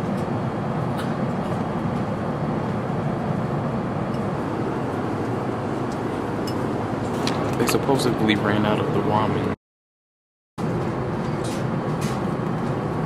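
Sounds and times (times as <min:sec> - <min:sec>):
airliner cabin engine rush: 0:00.0 - 0:09.6, 0:10.6 - 0:13.0.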